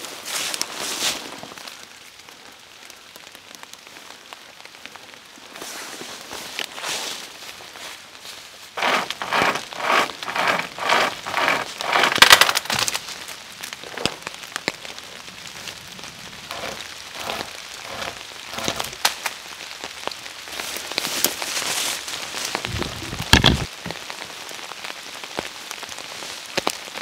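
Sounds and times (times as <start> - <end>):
rain pattering: 0.6 - 6.8, 7.4 - 27.0.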